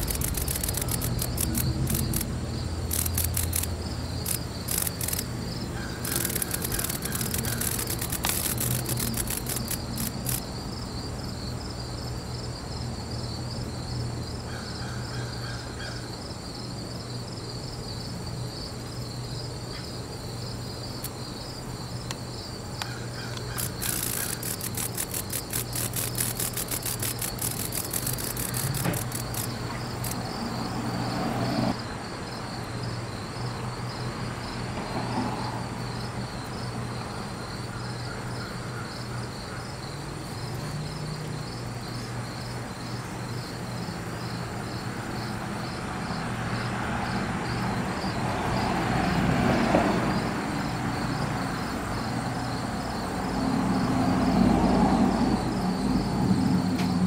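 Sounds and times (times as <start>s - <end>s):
cicada buzzing: 0.0s - 57.0s
crickets chirping: 0.0s - 57.0s.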